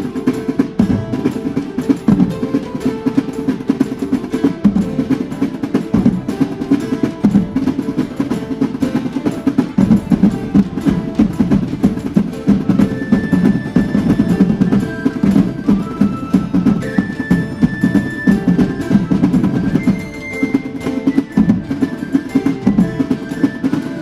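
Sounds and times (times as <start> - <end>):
fast continuous drumming: 0.0 - 24.0
held high notes: 0.0 - 24.0.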